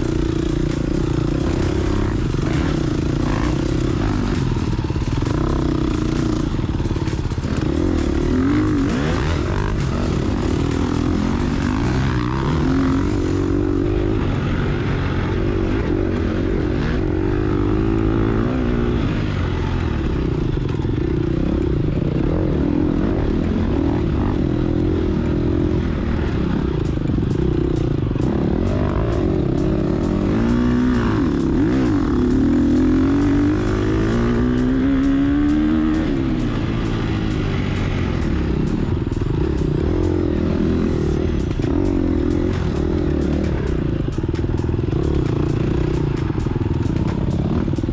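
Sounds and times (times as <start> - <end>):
motorcycle engine revving: 0.0 - 47.9
sharp rapid ticks: 0.0 - 47.9.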